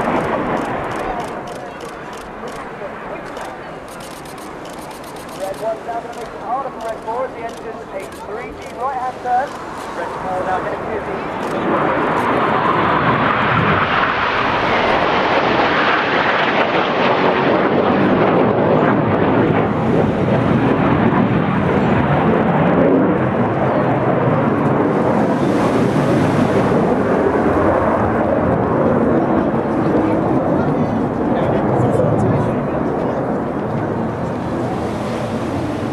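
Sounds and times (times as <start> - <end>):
jets flying overhead: 0.0 - 35.9.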